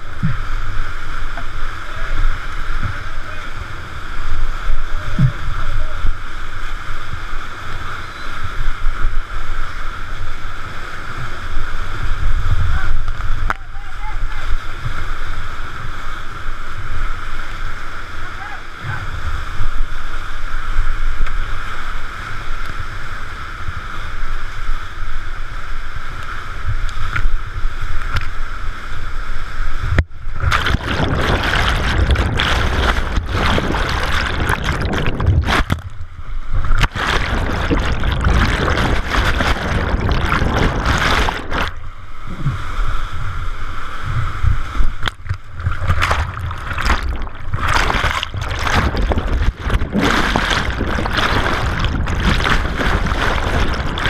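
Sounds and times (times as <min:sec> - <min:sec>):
whitewater churning: 0:00.0 - 0:26.8, 0:27.4 - 0:54.0.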